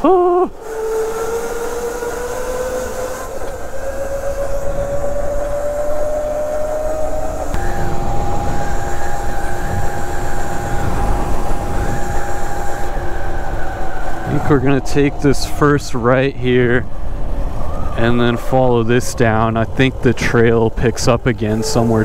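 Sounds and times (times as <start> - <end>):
electric motor whining: 0.0 - 22.0
rumble of wind and tyres: 0.0 - 22.0.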